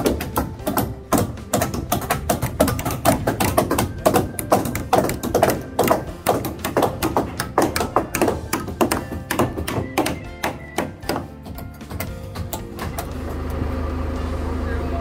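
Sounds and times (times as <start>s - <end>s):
tapping percussive beat: 0.0s - 13.1s.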